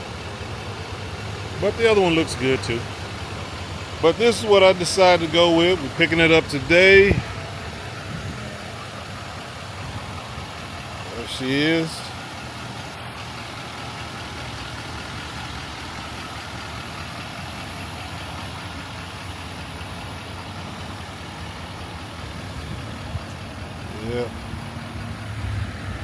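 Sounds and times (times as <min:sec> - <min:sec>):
background rush: 0:00.0 - 0:26.0
vehicle engine idling: 0:00.0 - 0:26.0.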